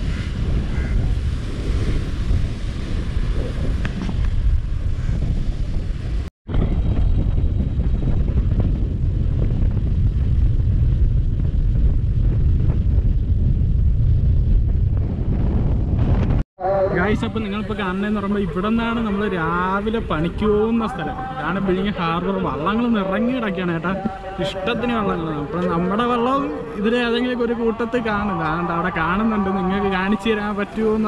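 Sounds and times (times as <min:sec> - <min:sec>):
wind blowing on microphone: 0:00.0 - 0:31.0.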